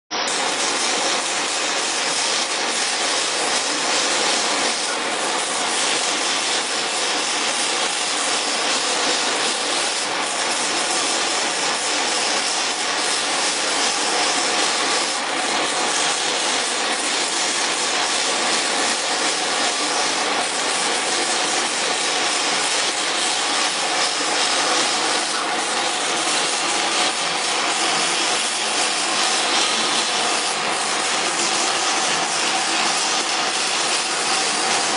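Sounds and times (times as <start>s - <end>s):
rushing noise of blowing air and fans: 0.1s - 34.9s.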